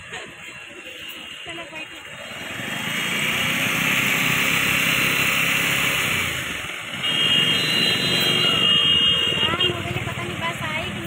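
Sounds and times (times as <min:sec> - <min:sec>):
motorcycle engine running: 0:01.3 - 0:11.0.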